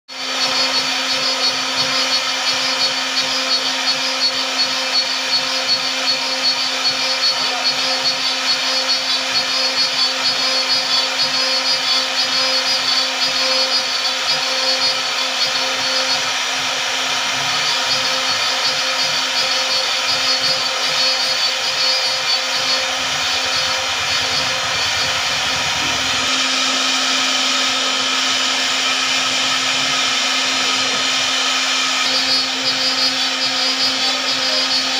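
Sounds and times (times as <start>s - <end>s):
electric motor whirring: 0.1s - 34.9s.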